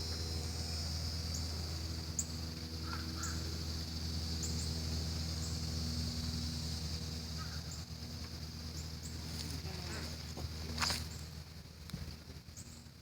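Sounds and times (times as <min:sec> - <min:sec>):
insects buzzing: 0:00.0 - 0:13.0
low hum: 0:00.0 - 0:13.0.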